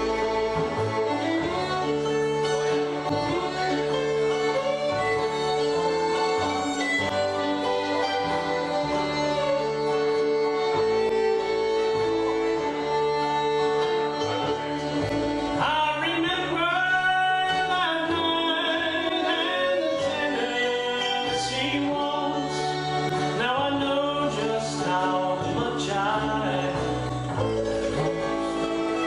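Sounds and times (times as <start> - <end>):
person singing: 0.0 - 29.0
string band playing: 0.0 - 29.0.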